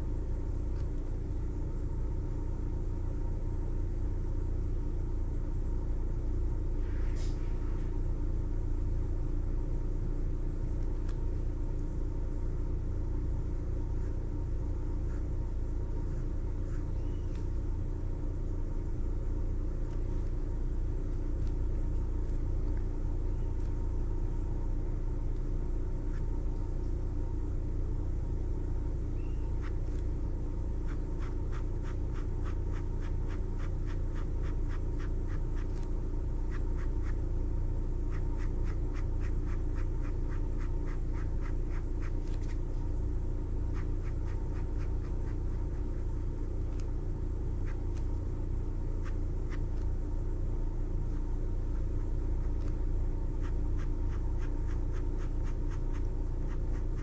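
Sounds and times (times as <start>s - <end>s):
low rumble and hum: 0.0s - 57.0s.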